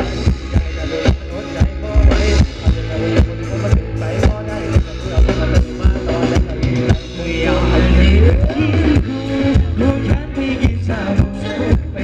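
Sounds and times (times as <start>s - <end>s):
heavy bass line: 0.0s - 12.0s
live band dance music: 0.0s - 12.0s
steady drum beat: 0.0s - 12.0s.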